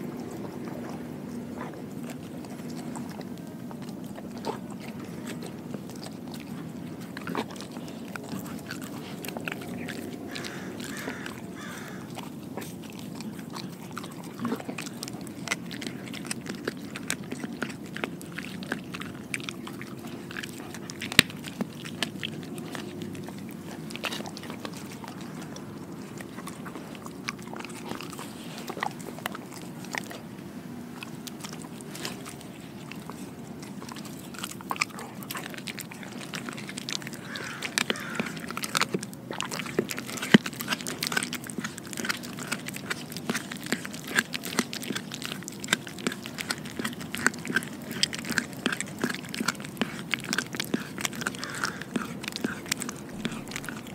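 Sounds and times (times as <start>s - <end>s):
clicks of teeth: 0.0s - 30.4s, 31.0s - 53.9s
dog chewing wet chomps: 0.0s - 53.9s.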